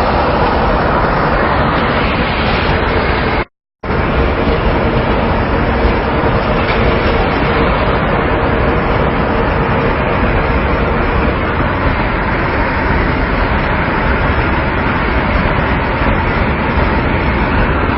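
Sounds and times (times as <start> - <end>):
road traffic noise: 0.0 - 17.9.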